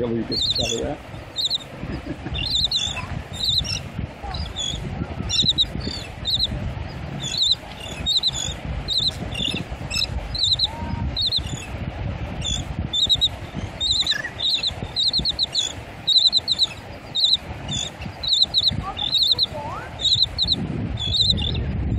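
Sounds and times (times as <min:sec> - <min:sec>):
terns calling: 0:00.0 - 0:21.6.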